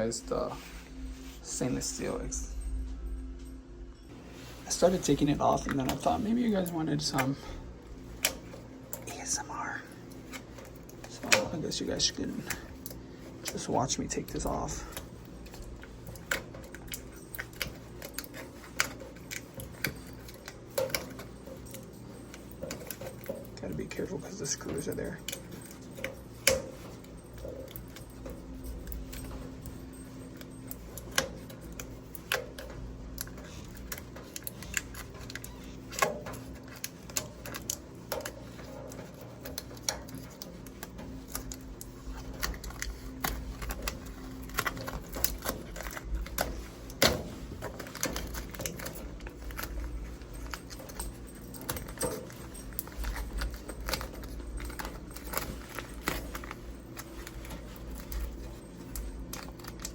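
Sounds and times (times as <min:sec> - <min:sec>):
plastic film peeling off metal: 0:10.0 - 0:59.9.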